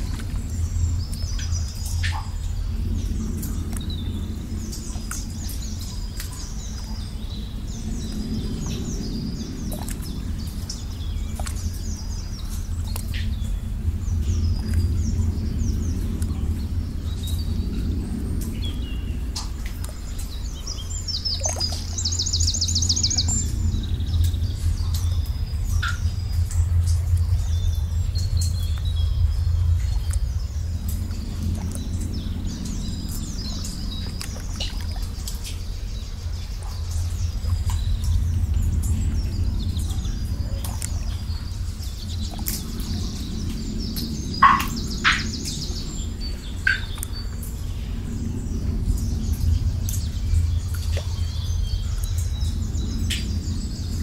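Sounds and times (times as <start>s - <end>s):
songbirds chirping: 0.0s - 54.0s
steady low rumble: 0.0s - 54.0s.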